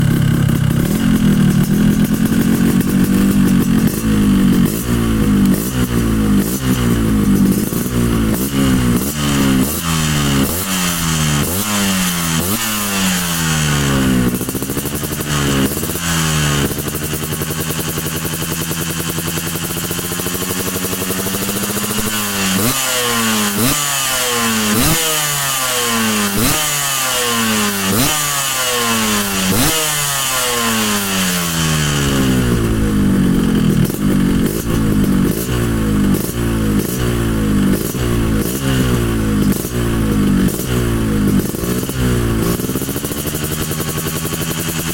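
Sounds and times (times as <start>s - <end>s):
two-stroke motorcycle engine revving: 0.0s - 44.9s.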